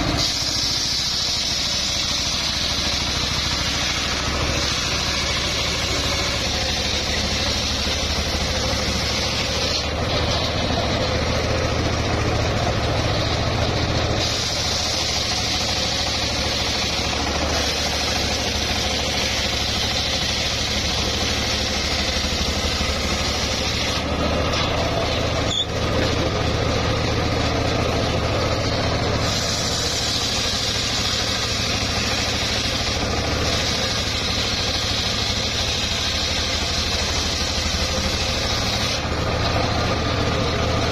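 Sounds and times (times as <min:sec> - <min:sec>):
saw blade hissing through wood: 0:00.0 - 0:40.9
saw drive humming: 0:00.0 - 0:40.9.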